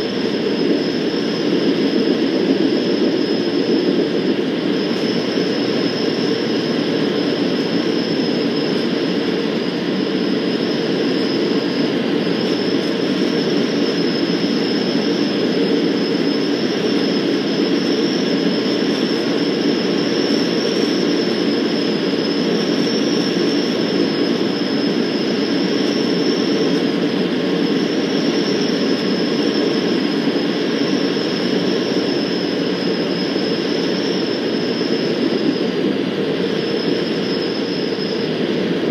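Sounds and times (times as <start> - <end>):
high whine: 0.0 - 38.9
light aircraft engine drone: 0.0 - 38.9.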